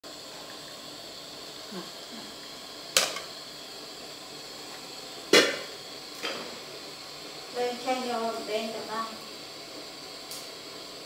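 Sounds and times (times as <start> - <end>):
pot boiling with hiss: 0.0 - 11.0.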